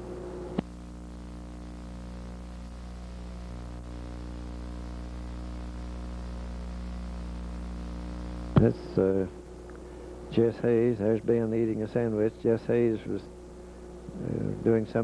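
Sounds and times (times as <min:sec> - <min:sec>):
buzzy electrical mains hum: 0:00.0 - 0:15.0.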